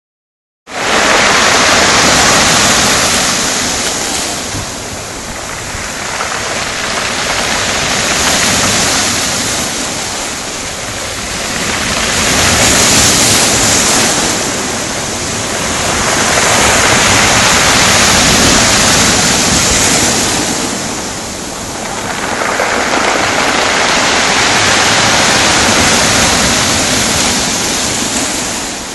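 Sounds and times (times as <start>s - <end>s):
sea waves breaking: 0.7s - 28.9s.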